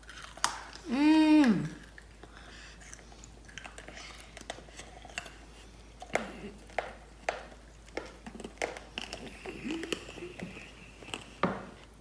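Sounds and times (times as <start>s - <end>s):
chewing crunchy candy: 0.0s - 12.0s.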